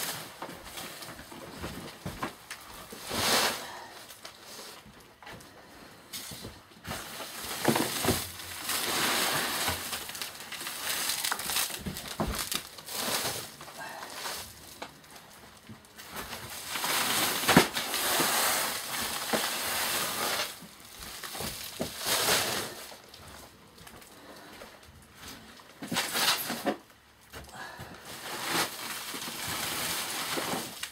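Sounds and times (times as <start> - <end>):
sacks rustling and scraping: 0.0 - 30.9.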